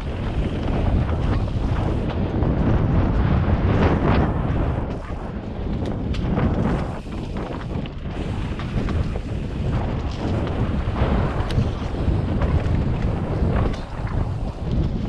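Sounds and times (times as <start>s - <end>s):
bike clicks and rattles: 0.0s - 15.0s
tyres rumbling on dirt trail: 0.0s - 15.0s
wind buffeting microphone: 0.0s - 15.0s.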